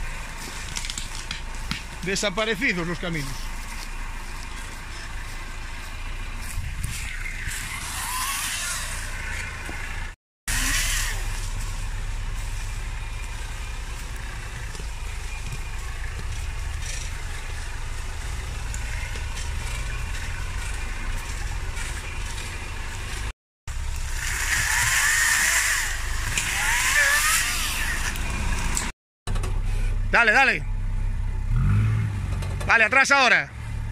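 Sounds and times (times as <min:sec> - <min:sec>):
engine low rumble: 0:00.0 - 0:33.9.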